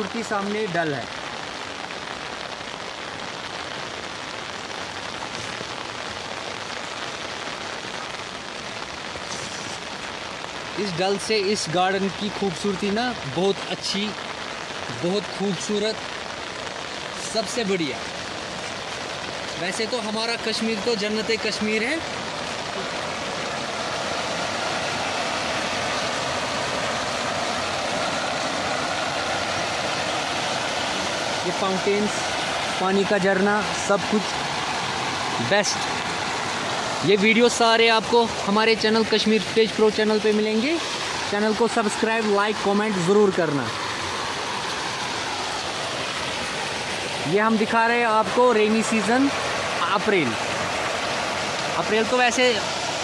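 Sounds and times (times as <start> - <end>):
heavy rain falling: 0.0 - 53.0
water pouring down cascade: 0.0 - 53.0.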